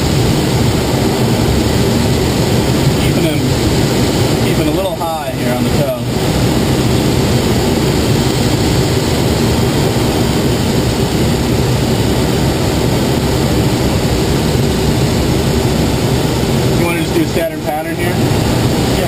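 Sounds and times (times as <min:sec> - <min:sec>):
propeller plane engine droning: 0:00.0 - 0:19.0
rush of air: 0:00.0 - 0:19.0.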